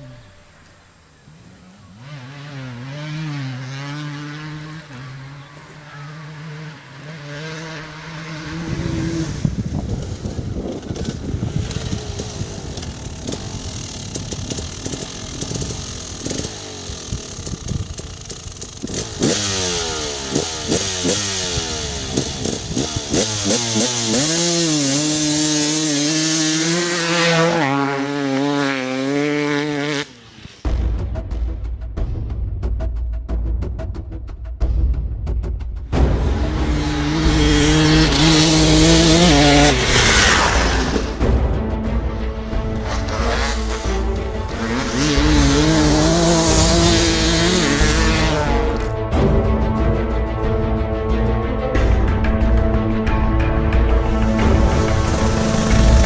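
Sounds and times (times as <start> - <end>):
two-stroke engine revving: 1.1 - 30.7, 36.0 - 41.7, 42.4 - 49.4, 53.0 - 56.0.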